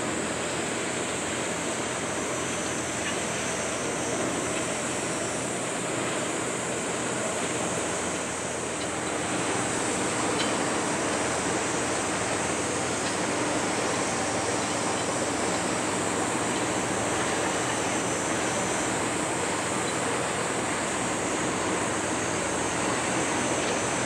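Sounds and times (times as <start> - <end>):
rushing wash of ship wake: 0.0 - 24.0.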